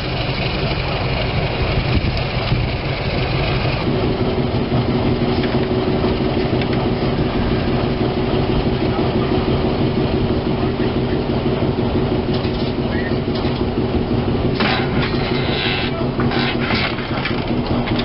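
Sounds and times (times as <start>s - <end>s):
diesel locomotive engine running: 0.0s - 18.0s
steady humming tone: 0.1s - 18.0s.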